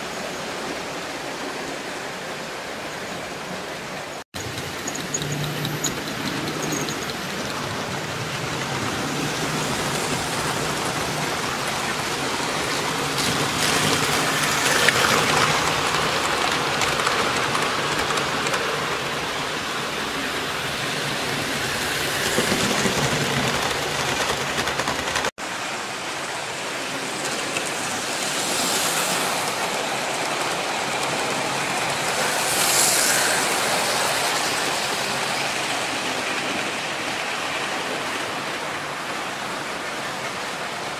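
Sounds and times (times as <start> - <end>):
model train wheels rumbling on rails: 4.4 - 25.3, 26.8 - 38.8.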